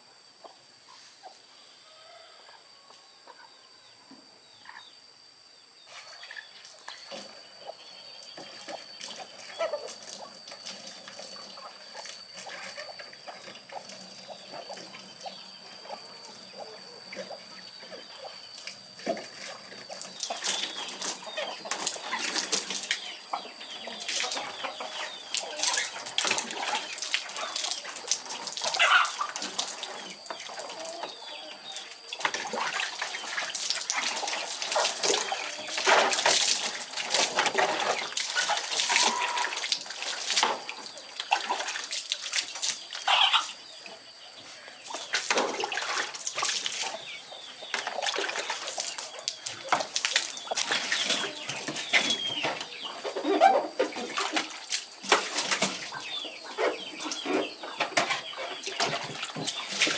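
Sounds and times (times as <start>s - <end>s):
chickens clucking: 5.9s - 59.9s.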